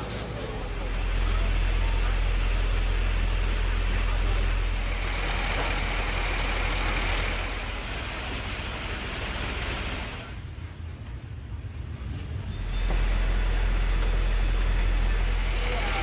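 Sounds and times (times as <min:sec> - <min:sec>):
street noise: 0:00.0 - 0:16.0
vehicle engine rumbling: 0:00.0 - 0:16.0.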